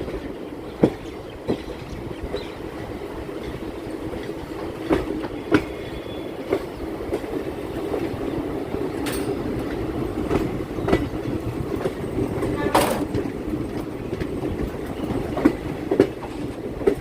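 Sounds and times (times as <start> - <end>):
train rumble: 0.0 - 17.0
wheels clacking over rail joints: 0.0 - 17.0.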